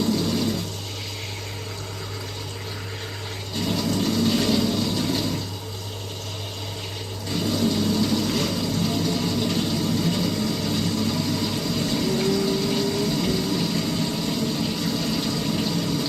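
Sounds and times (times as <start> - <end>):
water surging through plumbing: 0.0 - 16.0.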